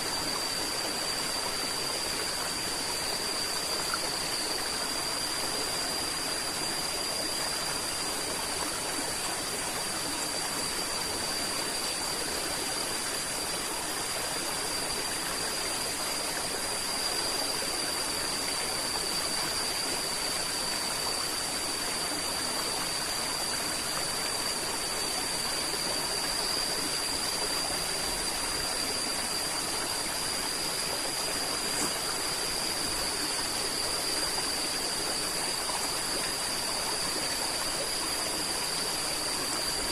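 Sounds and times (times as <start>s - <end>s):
steady high-pitched tone: 0.0s - 39.9s
river water flowing: 0.1s - 39.9s.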